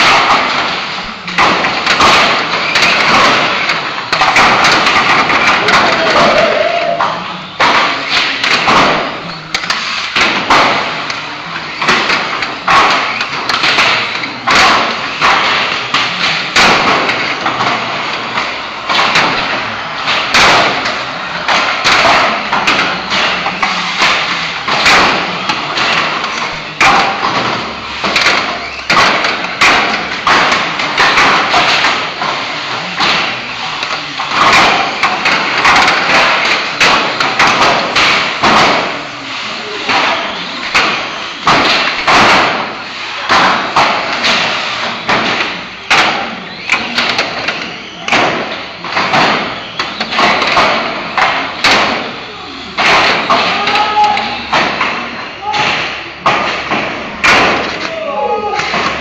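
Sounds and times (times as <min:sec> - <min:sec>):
small motors and tyres din: 0:00.0 - 0:59.0
toy cars crashing thumps: 0:00.0 - 0:59.0.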